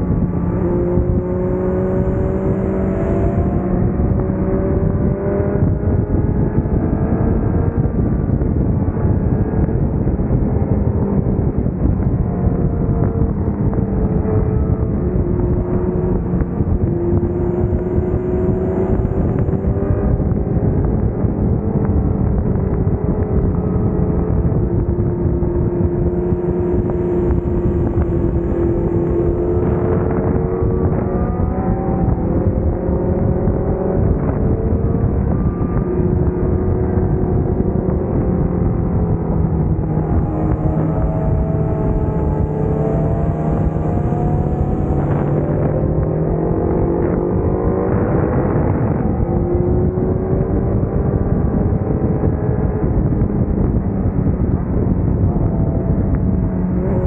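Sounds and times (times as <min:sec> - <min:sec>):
motorcycle engine revving: 0:00.0 - 0:57.0
wind rush on microphone: 0:00.0 - 0:57.0.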